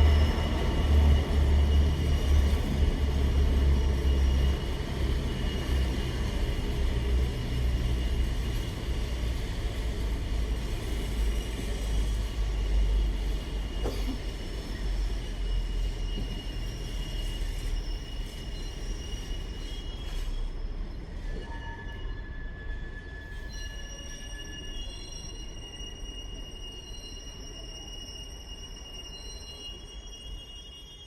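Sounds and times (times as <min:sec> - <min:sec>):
wheel squeal: 0:00.0 - 0:09.8, 0:10.7 - 0:31.0
freight train rumbling: 0:00.0 - 0:31.0.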